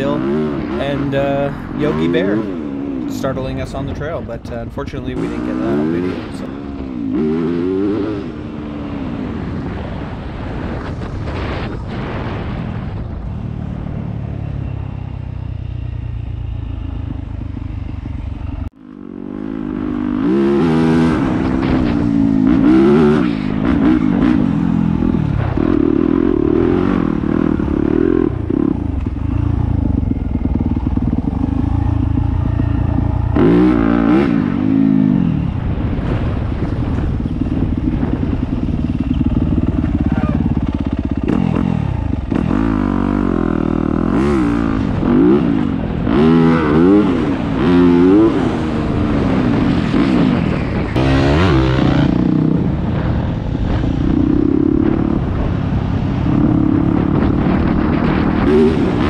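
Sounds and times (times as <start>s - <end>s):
dirt bike engine revving: 0.0s - 9.9s, 15.0s - 59.0s.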